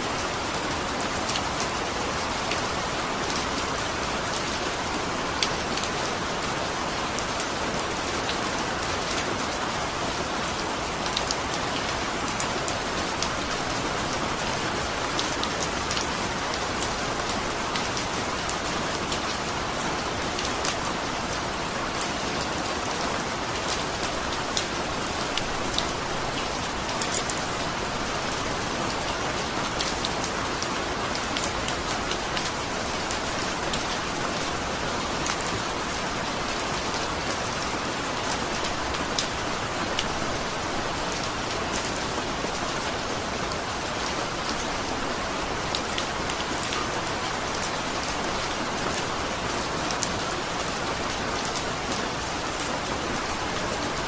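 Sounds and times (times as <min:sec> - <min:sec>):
rain falling: 0:00.0 - 0:54.0
raindrops ticking on a surface: 0:00.1 - 0:54.0.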